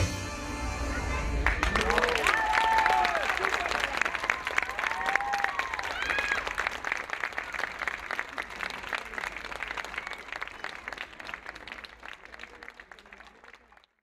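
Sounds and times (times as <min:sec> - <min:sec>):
audience applauding: 0:01.3 - 0:14.0.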